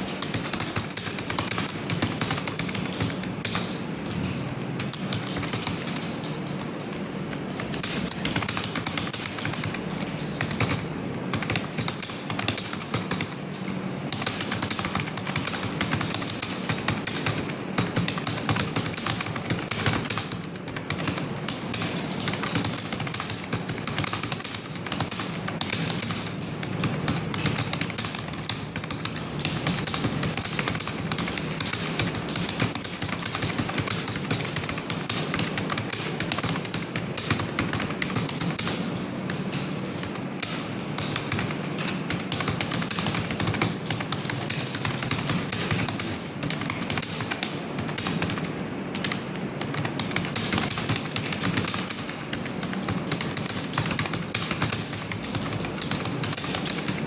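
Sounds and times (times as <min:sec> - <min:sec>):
fast typing on a keyboard: 0:00.0 - 0:57.0.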